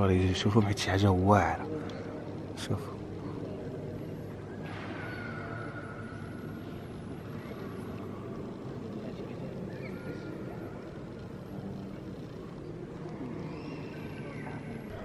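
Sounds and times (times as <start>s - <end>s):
faint echoing voices: 0.0s - 15.0s.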